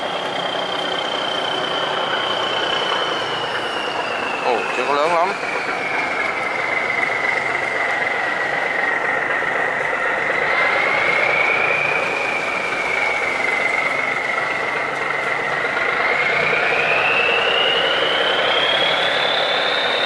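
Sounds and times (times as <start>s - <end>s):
diesel boat engines running: 0.0s - 20.0s
high whine: 0.0s - 20.0s.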